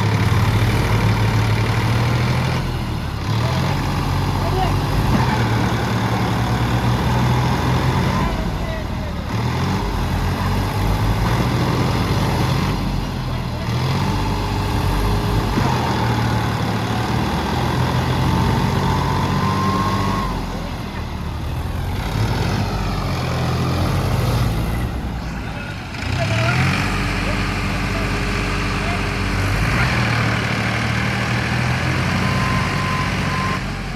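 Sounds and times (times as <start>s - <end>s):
tractor diesel engines under load: 0.0s - 33.9s.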